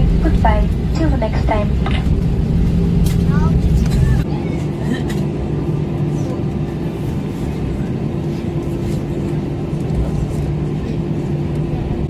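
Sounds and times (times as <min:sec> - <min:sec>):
aircraft cabin rumble: 0:00.0 - 0:12.0
engine and cabin systems hum: 0:00.0 - 0:12.0.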